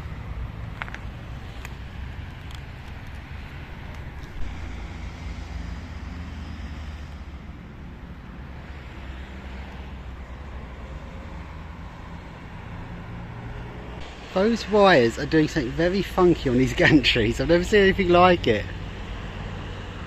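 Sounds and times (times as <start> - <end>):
distant road traffic rumble: 0.0 - 20.0.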